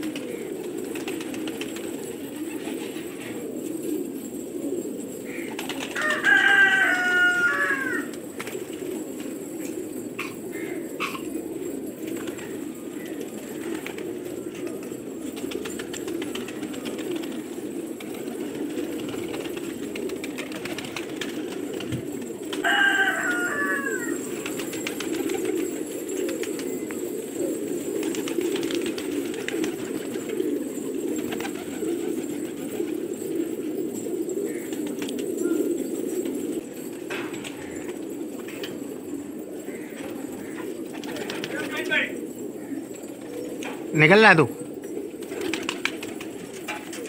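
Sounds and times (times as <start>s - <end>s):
high falling pigeon calls: 0.0s - 47.0s
pigeons cooing: 0.0s - 47.0s.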